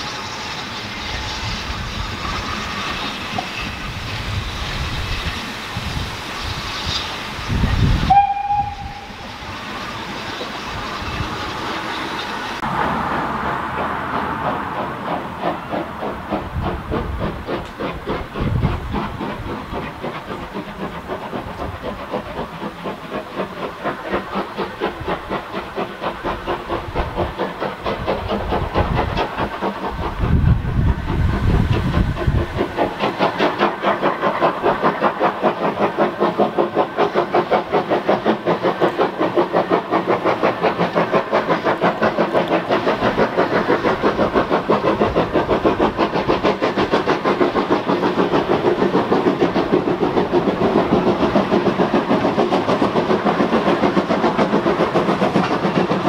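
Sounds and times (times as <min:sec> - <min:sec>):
steam hissing: 0:00.0 - 0:56.0
steam train chugging: 0:00.0 - 0:56.0.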